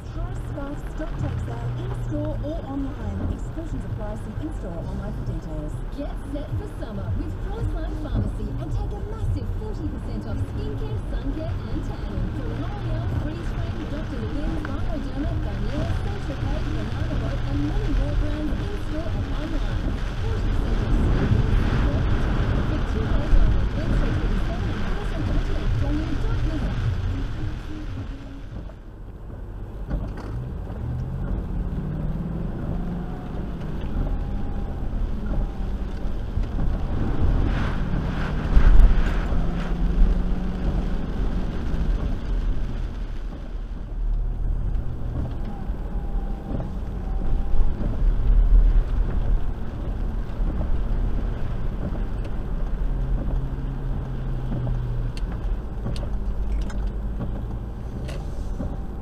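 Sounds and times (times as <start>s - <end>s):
car engine: 0.0s - 59.0s
tyres on wet road: 0.0s - 59.0s.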